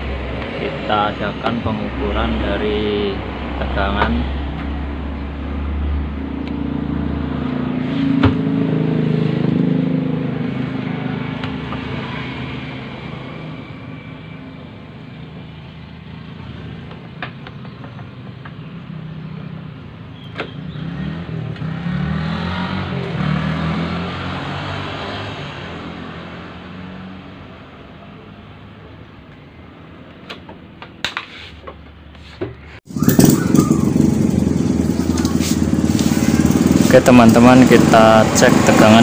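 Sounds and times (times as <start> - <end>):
motor vehicles passing: 0.0 - 39.0.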